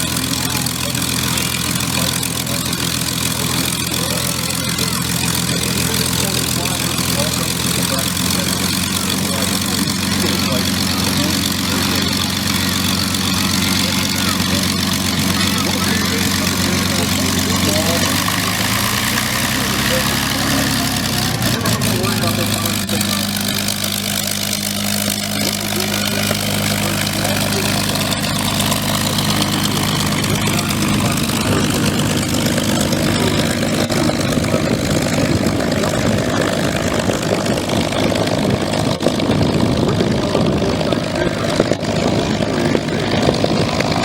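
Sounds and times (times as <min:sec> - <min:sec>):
propeller aircraft engine drone: 0:00.0 - 0:44.0.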